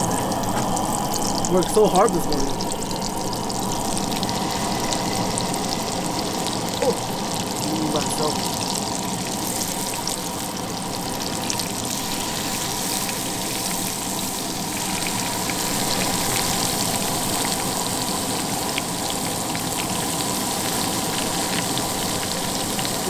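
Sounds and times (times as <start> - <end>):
fish frying in butter: 0.0 - 23.0.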